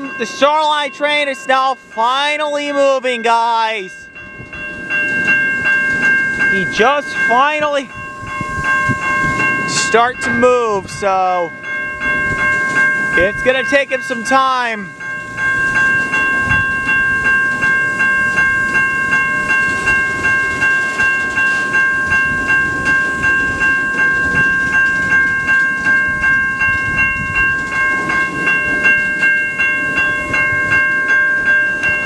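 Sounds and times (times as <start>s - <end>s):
freight train rumbling: 0.0s - 32.0s
railroad crossing bell ringing: 0.0s - 32.0s.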